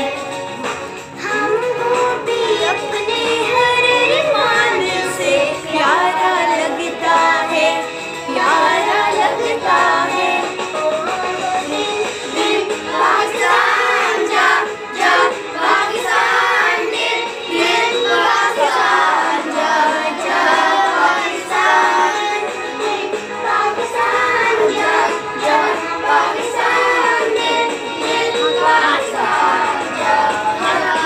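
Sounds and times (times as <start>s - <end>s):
children singing in chorus: 1.2s - 31.0s.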